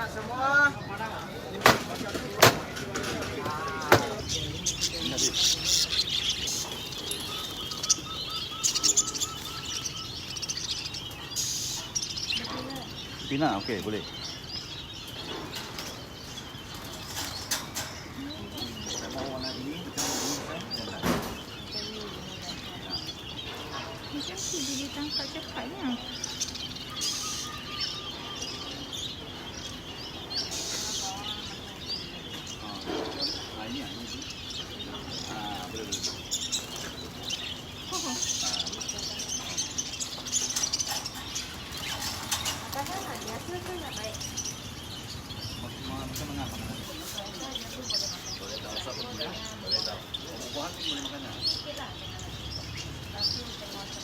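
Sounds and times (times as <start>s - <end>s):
birds chirping and twittering: 0.0s - 54.0s
steady background noise: 0.0s - 54.0s.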